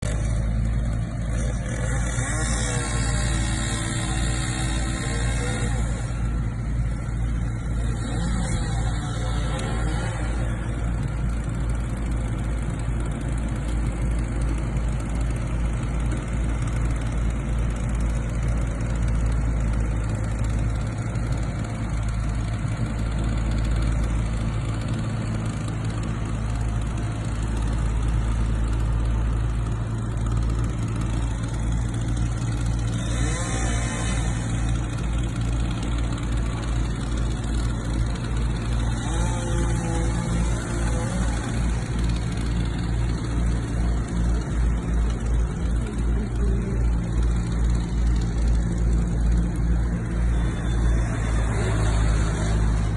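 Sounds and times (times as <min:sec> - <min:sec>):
large engine running steadily: 0:00.0 - 0:52.9.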